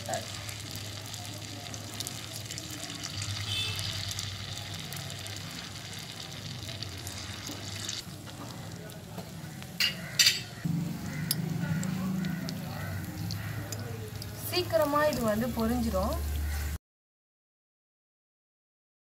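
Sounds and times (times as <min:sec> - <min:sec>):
deep-frying oil sizzling: 0:00.0 - 0:16.8.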